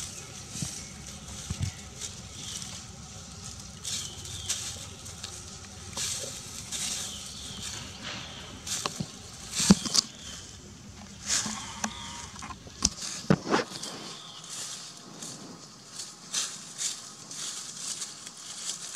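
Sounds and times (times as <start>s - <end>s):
twigs snapping: 0.0s - 15.4s
dry leaves rustling and crackling: 0.0s - 18.9s.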